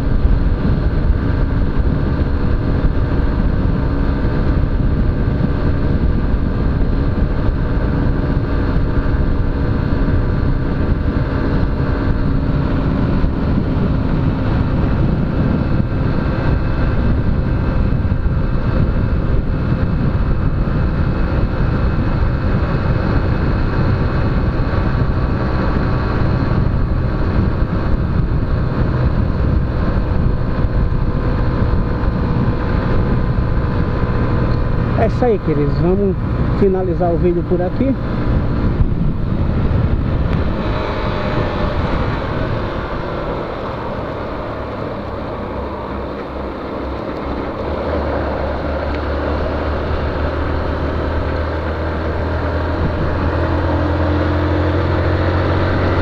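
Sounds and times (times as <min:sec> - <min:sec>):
motorcycle engine running: 0:00.0 - 0:56.0
wind on microphone: 0:00.0 - 0:56.0.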